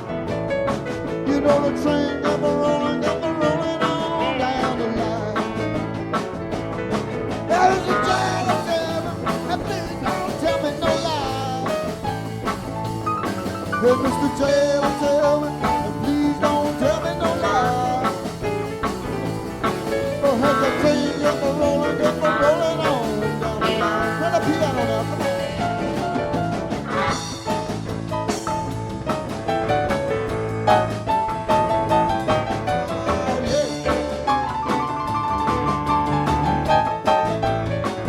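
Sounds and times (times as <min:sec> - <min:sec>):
live rock band playing: 0:00.0 - 0:38.0
pedal steel guitar lead lines: 0:00.0 - 0:38.0.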